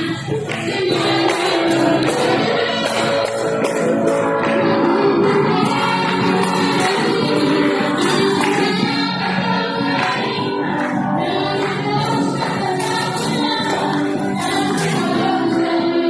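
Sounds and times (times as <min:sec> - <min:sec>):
instrumental backing music: 0:00.0 - 0:16.0
voices singing together: 0:00.0 - 0:16.0.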